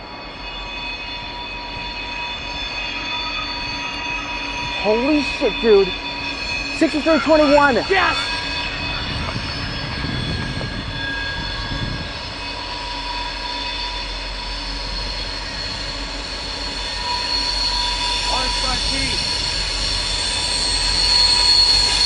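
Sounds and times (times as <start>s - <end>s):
diesel locomotive engine rumble: 0.0s - 22.0s
high-pitched wheel squeal: 0.0s - 22.0s.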